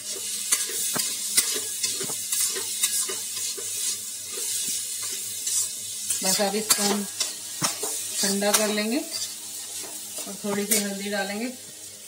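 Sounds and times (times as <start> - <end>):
metal spatula scraping a pan: 0.0 - 11.3
lentils sizzling in oil: 0.0 - 12.0.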